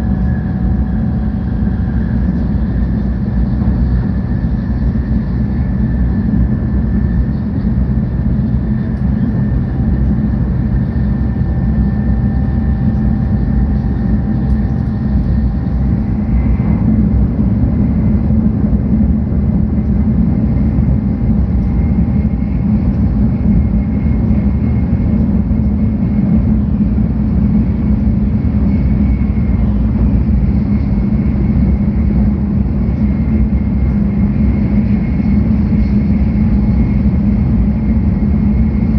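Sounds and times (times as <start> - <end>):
train running low rumble: 0.0 - 38.9.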